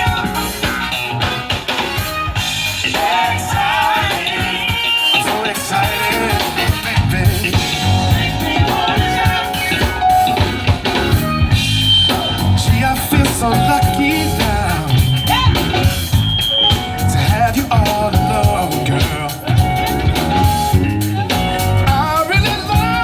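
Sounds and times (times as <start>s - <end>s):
live band playing rhythm and blues: 0.0s - 23.0s.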